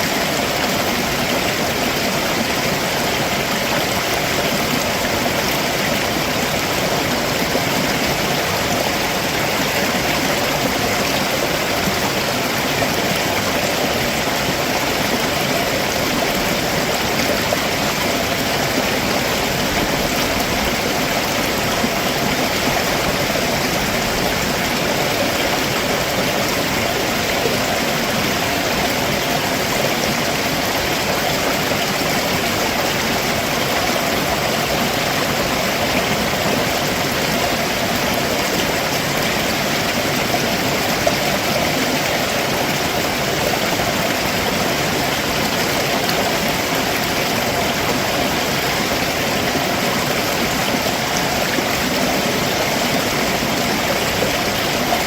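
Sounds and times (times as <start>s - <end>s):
stream water rushing over rocks: 0.0s - 55.0s.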